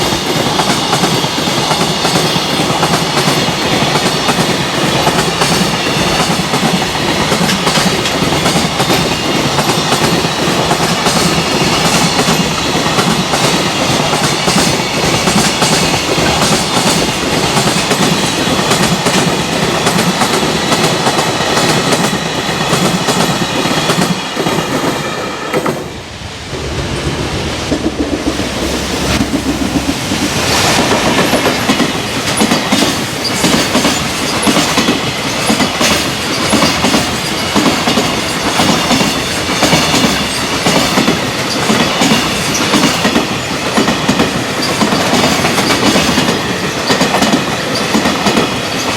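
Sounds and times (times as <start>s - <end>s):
freight train wheels clattering: 0.0s - 26.0s, 26.9s - 48.9s.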